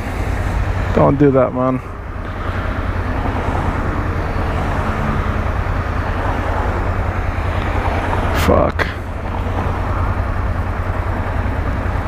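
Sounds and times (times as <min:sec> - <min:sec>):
city traffic driving past: 0:00.0 - 0:12.0
motorcycle engine idling: 0:00.0 - 0:12.0.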